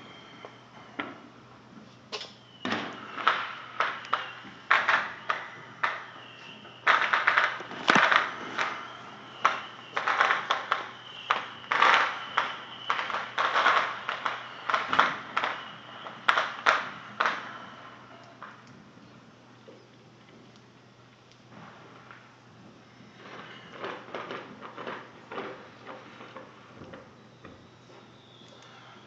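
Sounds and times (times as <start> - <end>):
fireworks bangs and crackling: 0.0 - 20.5, 21.4 - 29.0.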